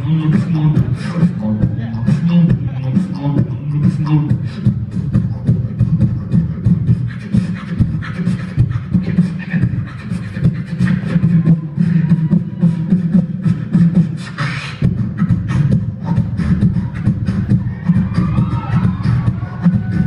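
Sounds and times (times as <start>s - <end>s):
beatboxing into a microphone: 0.0s - 20.0s.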